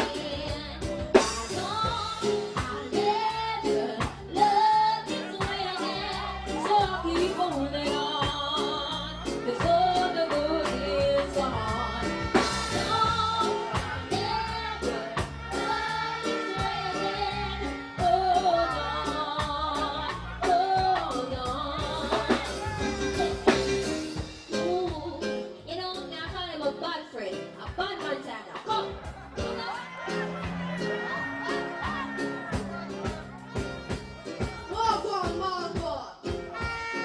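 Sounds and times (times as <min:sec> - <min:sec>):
backing rhythm with drums and bass: 0:00.0 - 0:37.0.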